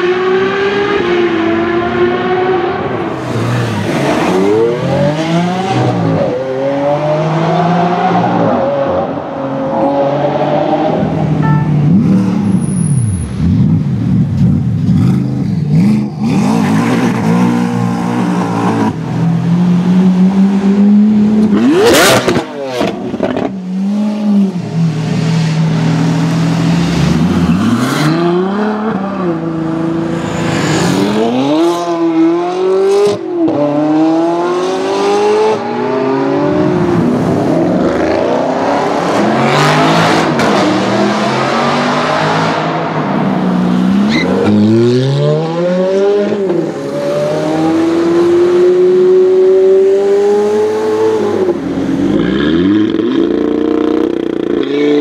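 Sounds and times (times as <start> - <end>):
car engines revving and accelerating: 0.0 - 55.0.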